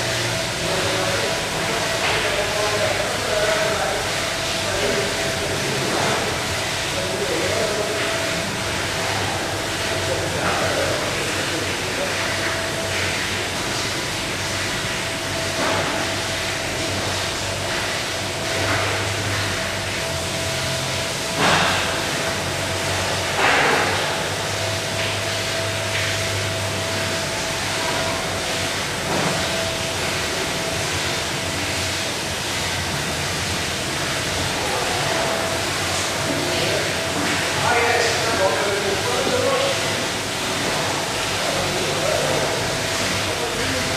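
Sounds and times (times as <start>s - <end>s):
machine din with whine and hum: 0.0s - 43.9s.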